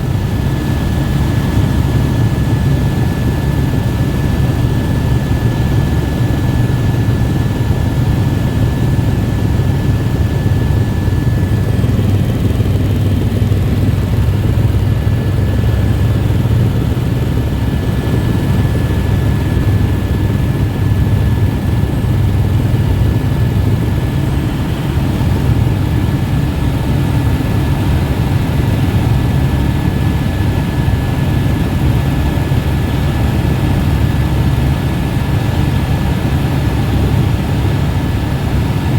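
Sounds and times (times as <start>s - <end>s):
helicopter low drone: 0.0s - 38.9s.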